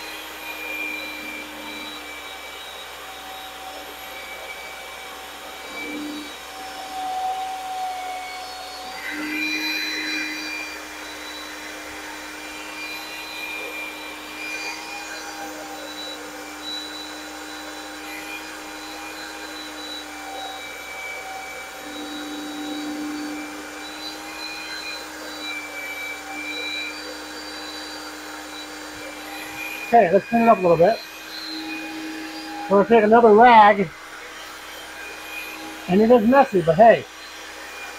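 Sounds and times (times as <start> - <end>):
cordless drill motor whine: 0.0 - 37.9.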